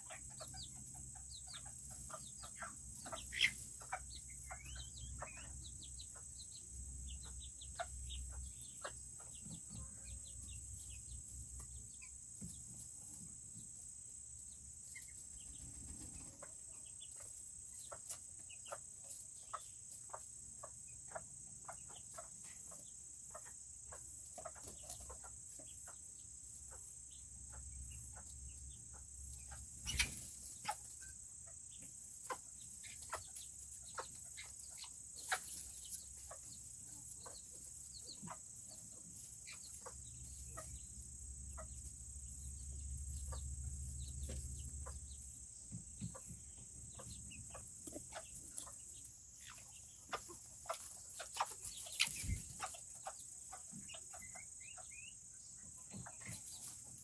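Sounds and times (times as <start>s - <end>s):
chickens clucking softly: 0.0s - 13.7s, 14.8s - 57.0s.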